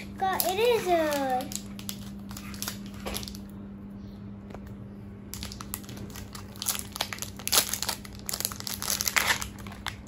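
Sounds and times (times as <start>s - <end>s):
packaging crinkling: 0.0s - 3.5s, 5.3s - 10.0s.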